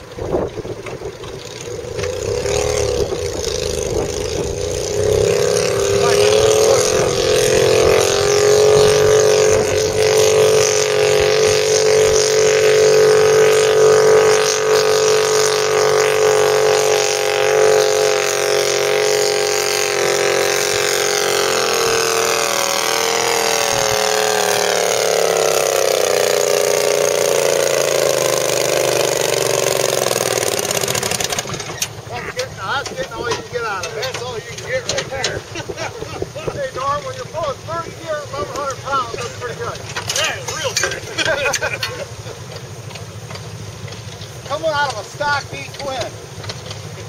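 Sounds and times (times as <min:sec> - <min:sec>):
tractor engine at high revs: 0:00.0 - 0:47.0.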